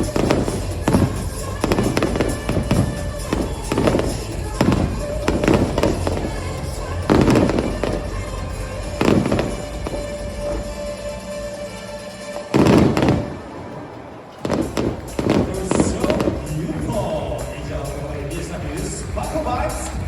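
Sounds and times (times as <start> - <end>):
fireworks booming and crackling: 0.0 - 20.0
music playing: 0.0 - 20.0.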